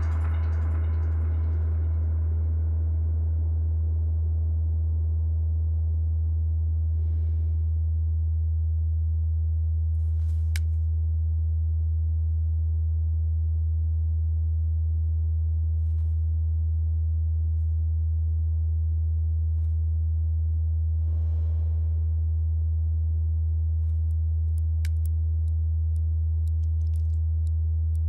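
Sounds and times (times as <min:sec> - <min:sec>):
deep low drone: 0:00.0 - 0:28.0.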